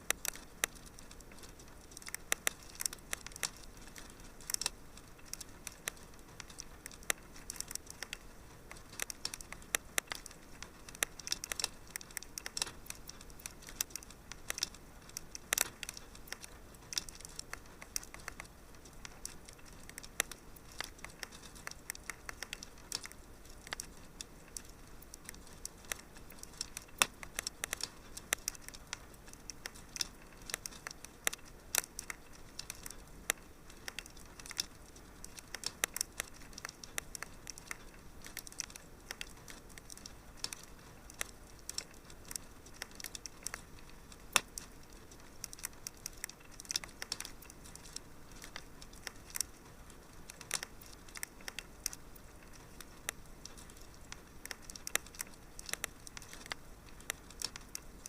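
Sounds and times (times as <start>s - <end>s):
faint hiss: 0.0s - 58.0s
wood fire crackling: 0.0s - 58.0s.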